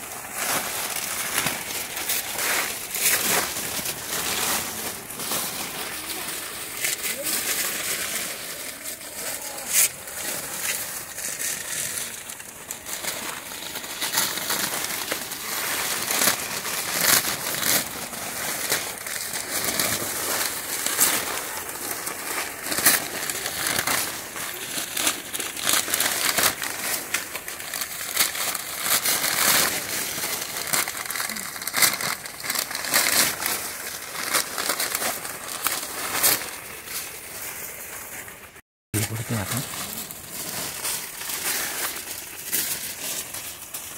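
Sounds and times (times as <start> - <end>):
paper ripping: 0.0 - 38.2, 39.0 - 43.9
paper crackling and crinkling: 0.0 - 43.9.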